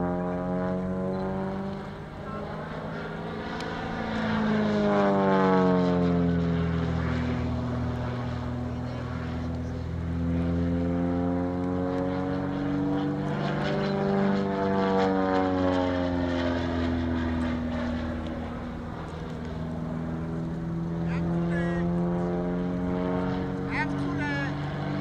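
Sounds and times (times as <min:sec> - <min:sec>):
propeller plane flying overhead: 0:00.0 - 0:25.0.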